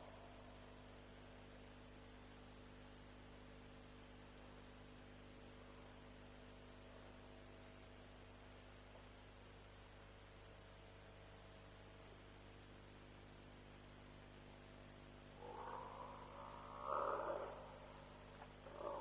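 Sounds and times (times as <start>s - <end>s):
faint hiss: 0.0s - 19.0s
steady electrical hum: 0.0s - 19.0s.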